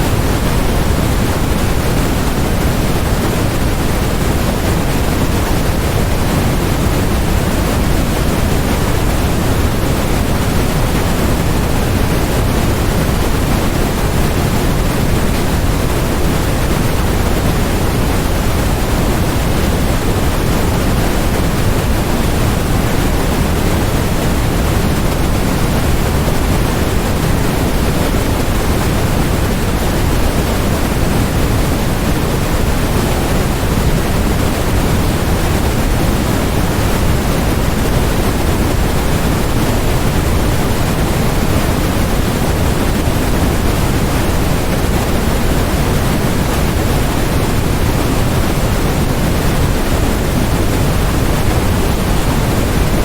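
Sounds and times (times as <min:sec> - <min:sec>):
steady white noise hiss: 0:00.0 - 0:53.0.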